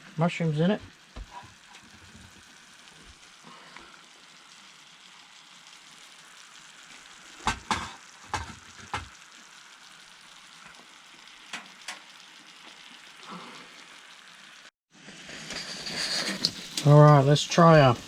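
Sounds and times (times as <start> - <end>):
food sizzling in butter: 0.1 - 18.0.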